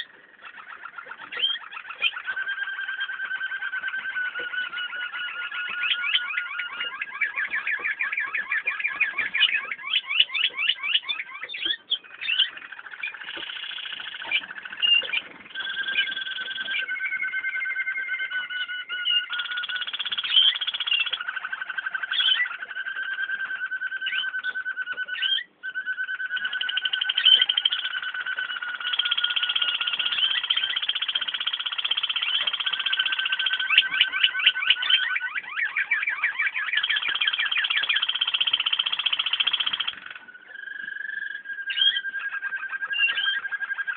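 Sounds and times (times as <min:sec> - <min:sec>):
canary singing rolls and trills: 0:00.0 - 0:43.9.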